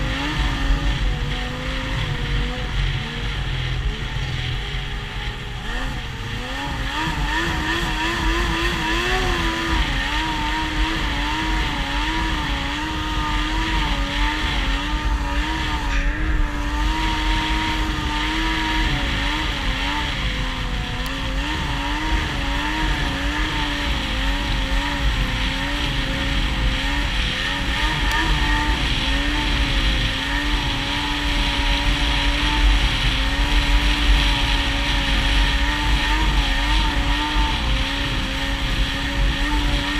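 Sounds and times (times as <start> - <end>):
snowmobile engine running: 0.0 - 39.9
steady rushing noise: 0.0 - 39.9.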